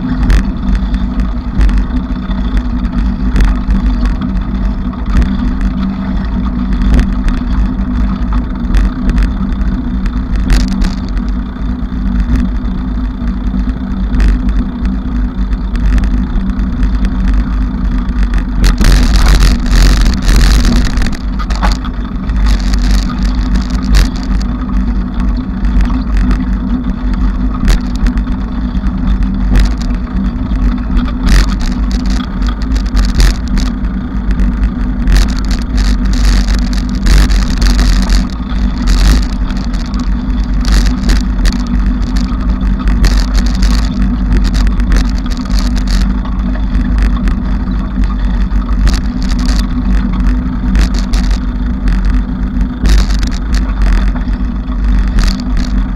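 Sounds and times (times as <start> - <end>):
bicycle riding rumble: 0.0 - 55.9
bike rattling over bumps: 0.0 - 55.9.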